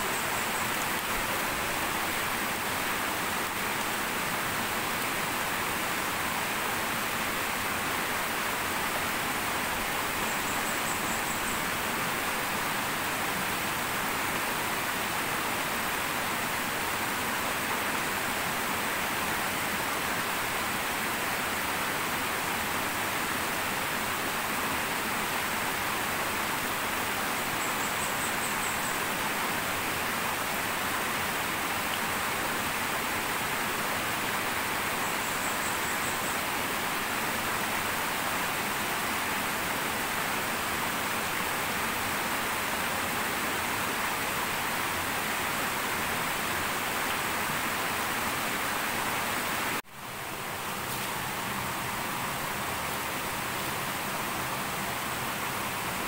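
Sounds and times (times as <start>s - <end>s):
stream rushing over cascade: 0.0s - 56.0s.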